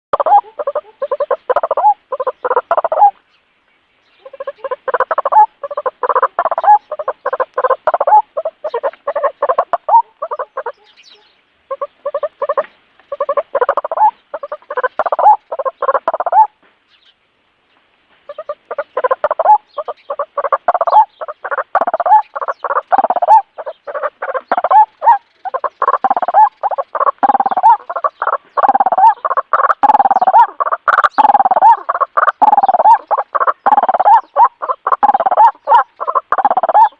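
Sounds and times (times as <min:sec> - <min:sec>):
bird calling: 0:00.1 - 0:17.2, 0:18.2 - 0:36.9.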